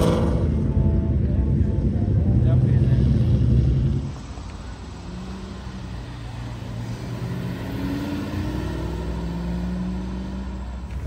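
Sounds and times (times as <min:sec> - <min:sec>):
car engine pulling away: 0:00.0 - 0:00.8, 0:01.6 - 0:11.0.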